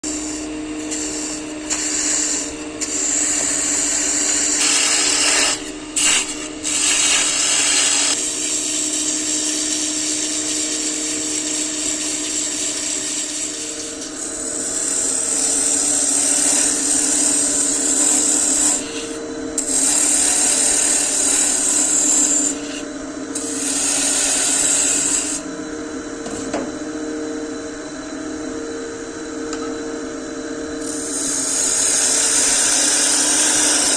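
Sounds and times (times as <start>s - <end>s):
hiss of tool cutting wood: 0.0s - 22.8s, 23.4s - 25.4s, 30.8s - 33.9s
wood lathe motor hum: 0.0s - 25.6s, 30.3s - 33.9s.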